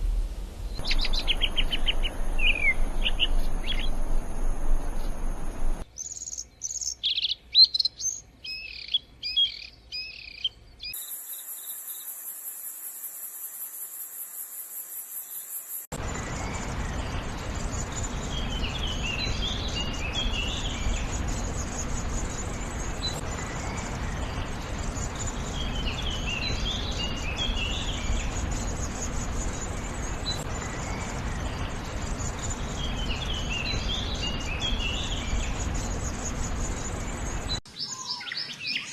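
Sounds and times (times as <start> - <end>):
bird singing short phrases: 0.8 - 3.9, 5.9 - 11.7, 16.5 - 38.9.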